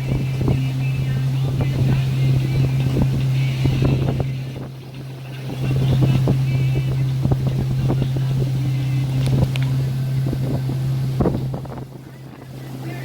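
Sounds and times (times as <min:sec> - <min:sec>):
motorboat engine droning: 0:00.0 - 0:13.0
wind buffeting microphone: 0:00.0 - 0:13.0.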